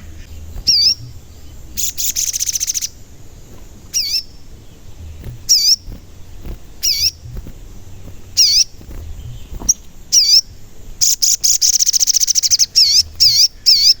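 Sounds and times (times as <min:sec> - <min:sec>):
bird chirping: 0:00.0 - 0:14.0
bird rattling trill: 0:00.1 - 0:14.0.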